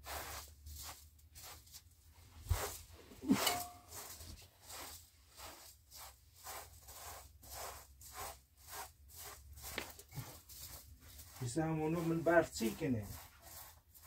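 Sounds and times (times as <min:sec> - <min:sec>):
broom sweeping floor: 0:00.0 - 0:14.0.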